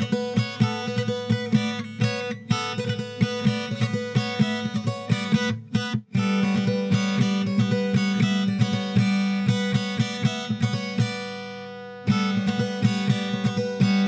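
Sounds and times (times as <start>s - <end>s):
plucked guitar notes: 0.0s - 14.0s.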